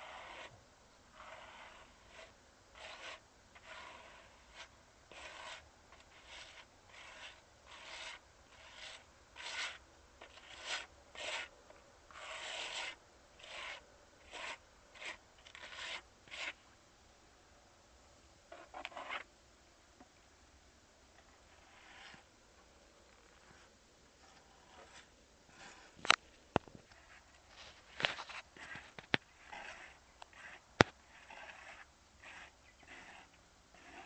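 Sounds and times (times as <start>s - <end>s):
rough scraping strokes: 0.0s - 11.5s, 12.1s - 16.7s, 18.5s - 19.3s, 21.4s - 22.3s, 23.1s - 26.2s, 26.8s - 34.0s.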